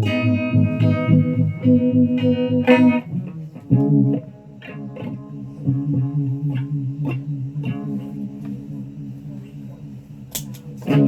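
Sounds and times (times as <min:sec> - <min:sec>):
guitar single notes ringing: 0:00.0 - 0:11.0.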